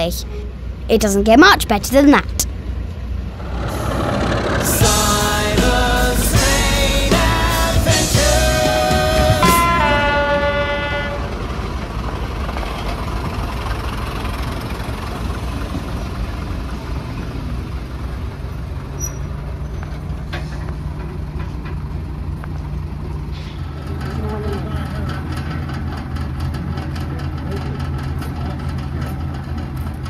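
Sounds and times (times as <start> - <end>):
diesel railcar engine idling: 0.0 - 30.0.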